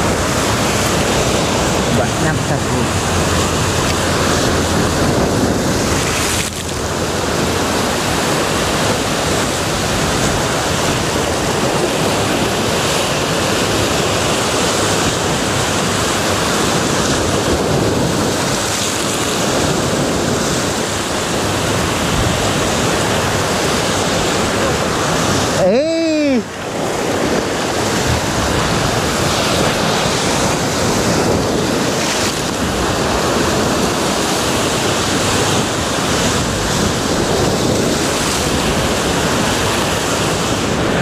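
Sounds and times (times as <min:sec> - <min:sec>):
surf breaking over rocks: 0:00.0 - 0:41.0.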